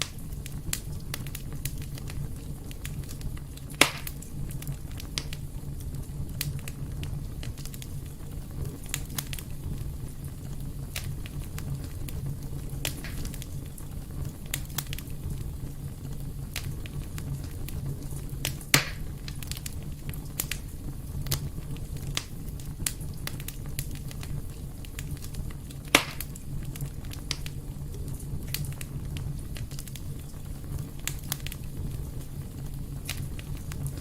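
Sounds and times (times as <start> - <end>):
fire crackling and popping: 0.0 - 34.0
fire rumbling in a fireplace: 0.0 - 34.0.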